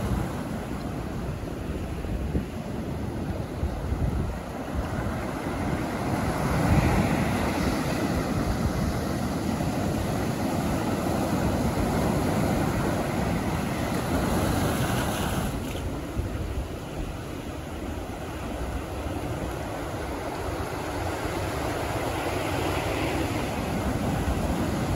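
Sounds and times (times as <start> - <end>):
ocean surf washing up beach: 0.0 - 24.9.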